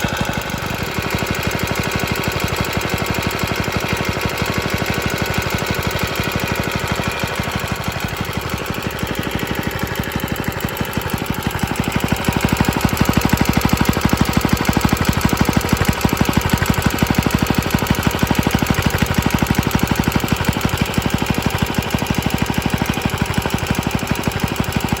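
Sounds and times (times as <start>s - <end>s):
small engine rattly firing beat: 0.0s - 25.0s.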